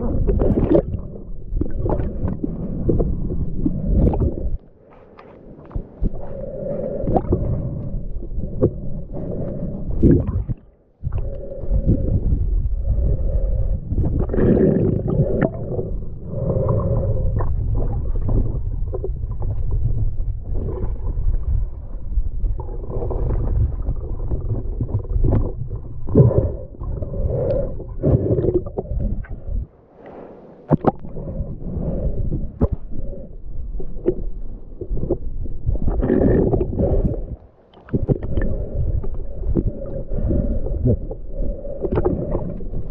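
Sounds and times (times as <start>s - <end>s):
gurgling bubbles: 0.0s - 4.6s, 5.6s - 29.7s, 30.7s - 42.9s
underwater river rumble: 0.0s - 42.9s.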